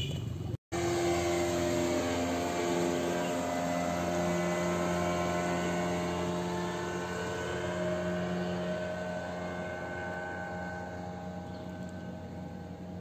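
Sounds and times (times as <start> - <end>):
motor engine running: 0.7 - 13.0.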